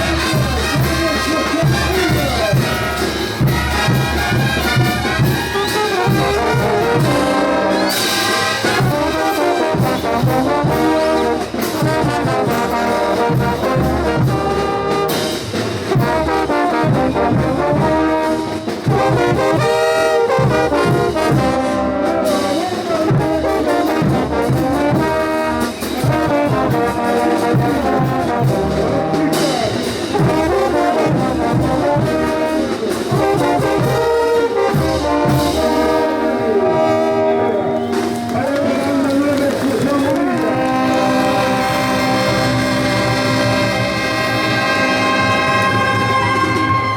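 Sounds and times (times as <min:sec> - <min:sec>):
steady drum beat: 0:00.0 - 0:46.9
trumpets and trombones melody: 0:00.0 - 0:46.9.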